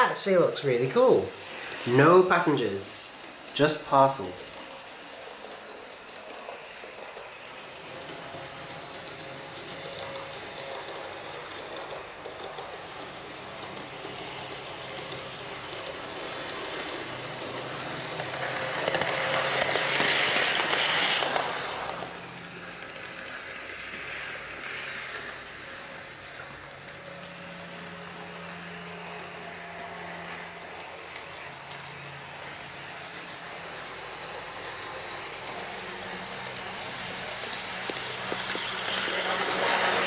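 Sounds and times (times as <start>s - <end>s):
model train whirring on rails: 0.0s - 40.0s.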